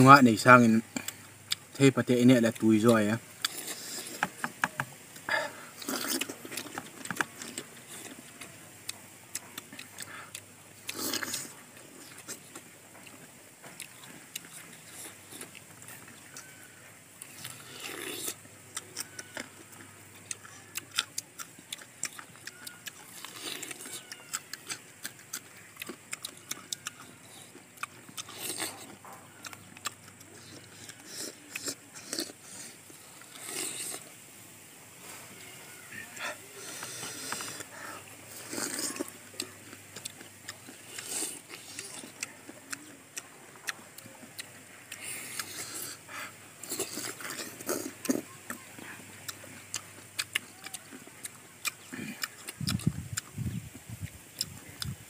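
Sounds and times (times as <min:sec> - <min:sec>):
chewing and mouth clicks: 0:00.0 - 0:34.2, 0:35.0 - 0:55.0.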